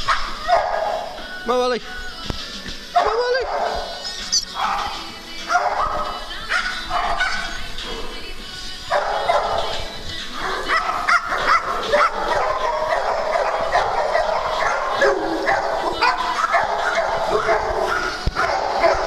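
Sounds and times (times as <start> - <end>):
dogs yipping: 0.0 - 1.4, 2.9 - 19.0
dogs whining: 3.0 - 8.3, 8.9 - 19.0.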